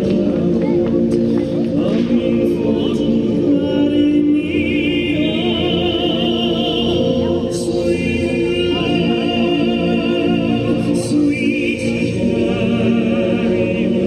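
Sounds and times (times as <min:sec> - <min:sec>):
choir singing: 0:00.0 - 0:14.0.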